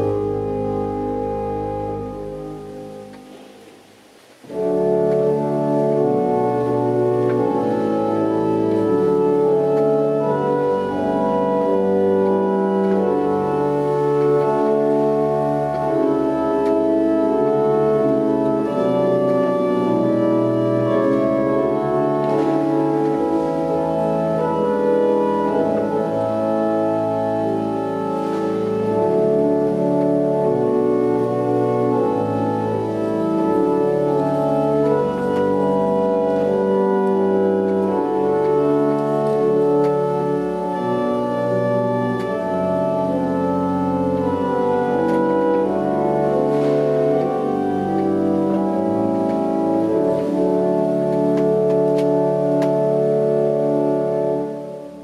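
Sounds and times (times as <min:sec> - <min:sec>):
organ playing sustained chords: 0:00.0 - 0:55.0.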